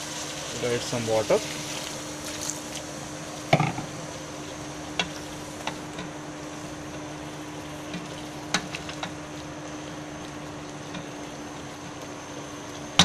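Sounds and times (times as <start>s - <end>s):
sizzling hiss: 0.0s - 13.0s.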